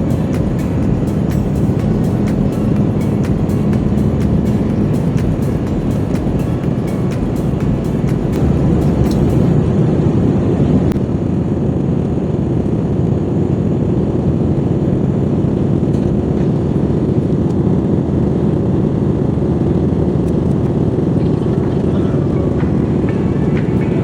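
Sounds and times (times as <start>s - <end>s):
airliner engines rumbling: 0.0s - 24.0s.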